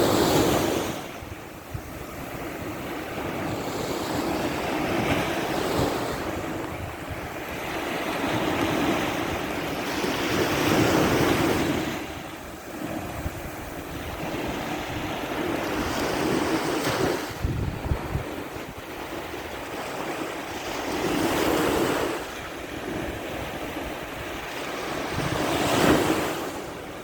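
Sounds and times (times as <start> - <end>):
waves washing onto shore: 0.0 - 27.0
wind buffeting microphone: 0.0 - 27.0.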